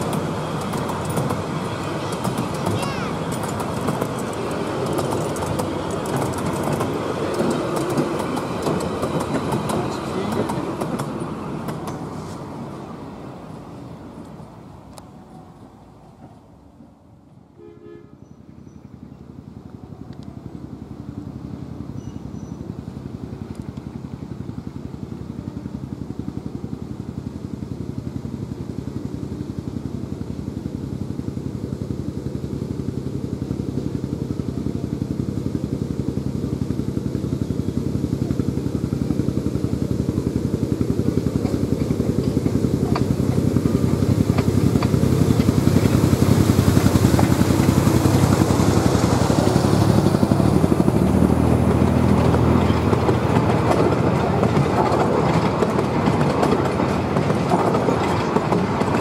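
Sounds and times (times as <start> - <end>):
wheels clicking on track: 0.0 - 17.4, 18.3 - 59.0
locomotive engine hum: 0.0 - 59.0.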